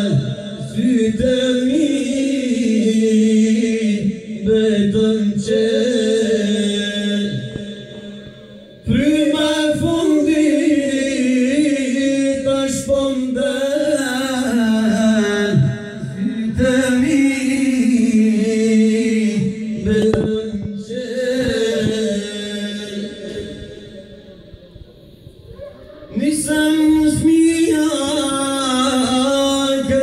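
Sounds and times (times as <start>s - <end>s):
man singing into a microphone: 0.0s - 24.5s, 26.1s - 30.0s.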